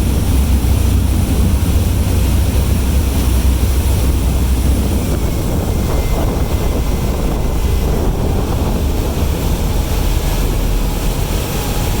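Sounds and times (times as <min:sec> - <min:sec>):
ferry engines rumbling: 0:00.0 - 0:12.0
wind buffeting microphone: 0:00.0 - 0:12.0.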